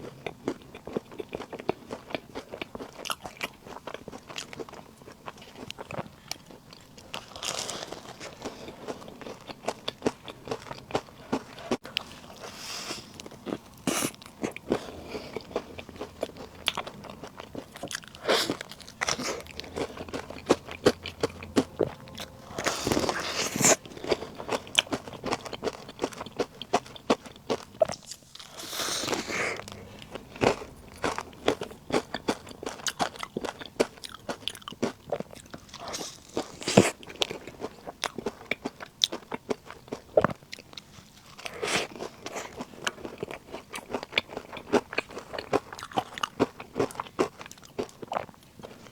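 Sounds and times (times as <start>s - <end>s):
crunchy snack chewing: 0.0s - 48.9s.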